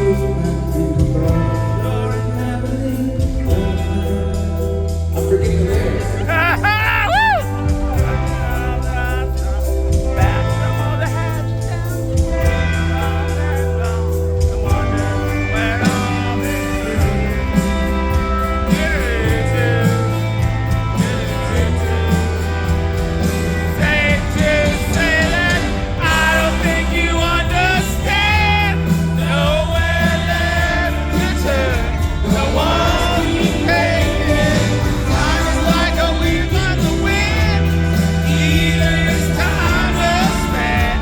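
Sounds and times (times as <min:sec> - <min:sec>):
lead singer singing: 0:00.0 - 0:41.0
rock band playing live: 0:00.0 - 0:41.0.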